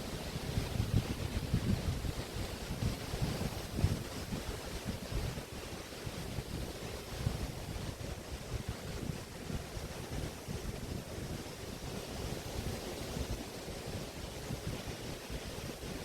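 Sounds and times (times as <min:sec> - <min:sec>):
waves washing onto shore: 0:00.0 - 0:16.0
wind buffeting microphone: 0:00.0 - 0:16.0.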